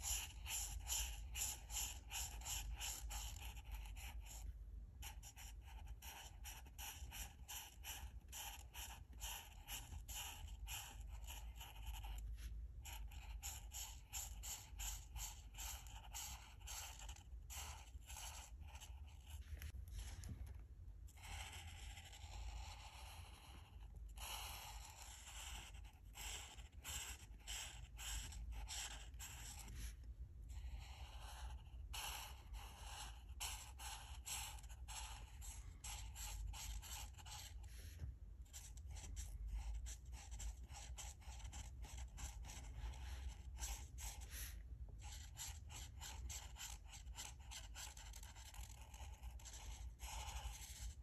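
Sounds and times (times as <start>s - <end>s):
marker tips scratching on paper: 0.0s - 20.1s, 21.1s - 51.0s.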